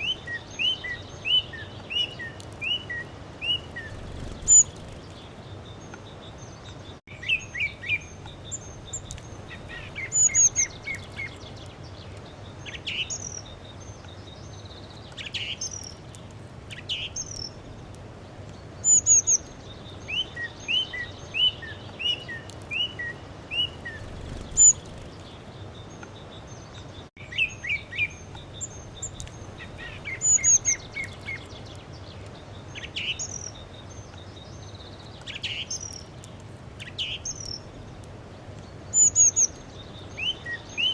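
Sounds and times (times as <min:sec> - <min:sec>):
birds chirping and calling: 0:00.0 - 0:18.0, 0:18.8 - 0:36.1
steady background hiss: 0:00.0 - 0:40.9.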